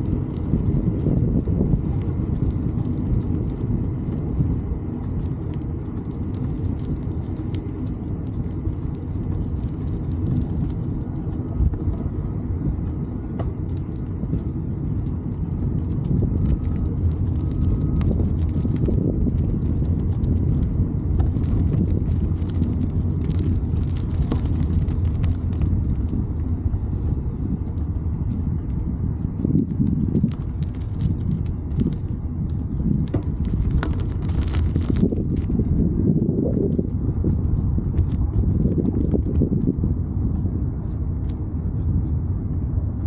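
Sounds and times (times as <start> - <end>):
faint ticks: 0.0 - 42.8
wind buffeting microphone: 0.0 - 43.0.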